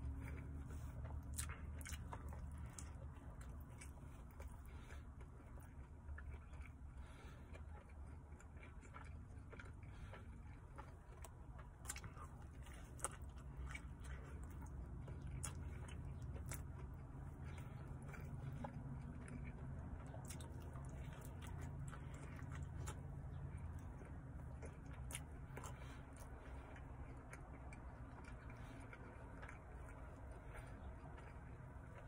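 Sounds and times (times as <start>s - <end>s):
chewing and biting pizza: 0.0s - 32.0s
low steady hum: 0.0s - 32.0s.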